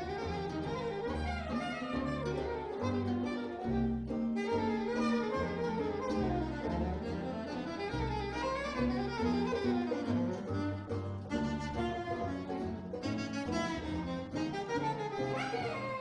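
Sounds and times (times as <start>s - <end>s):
bass line: 0.0s - 16.0s
small jazz combo playing: 0.0s - 16.0s.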